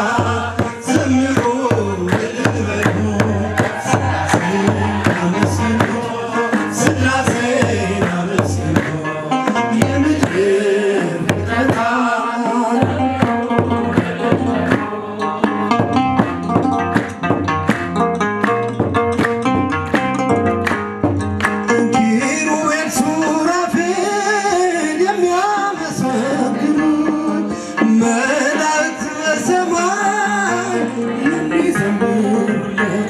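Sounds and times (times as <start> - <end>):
man singing hymn into microphone: 0.0 - 15.9, 21.7 - 33.0
hand drum beats: 0.0 - 33.0
instrumental backing: 0.0 - 33.0.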